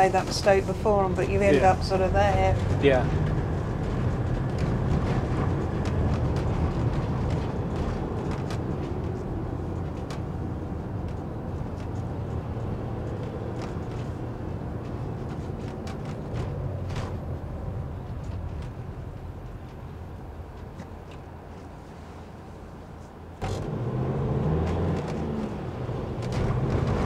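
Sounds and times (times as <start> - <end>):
engine and road noise rumble: 0.0 - 27.0.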